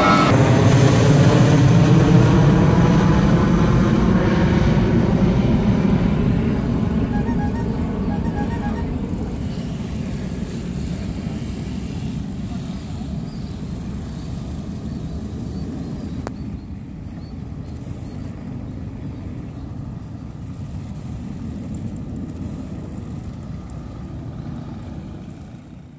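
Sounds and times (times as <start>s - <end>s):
jet airliner engines climbing: 0.0s - 25.9s.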